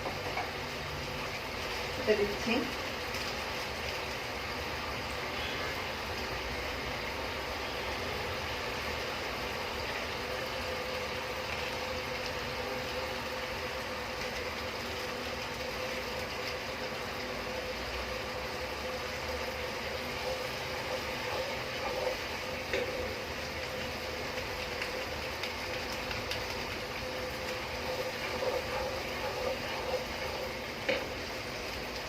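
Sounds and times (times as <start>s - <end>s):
pot cooking rushing noise: 0.0s - 32.0s.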